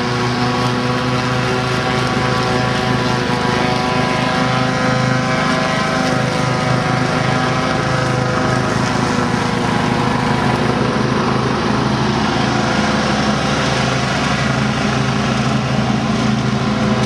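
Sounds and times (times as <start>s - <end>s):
riding lawn mower engine: 0.0s - 17.0s.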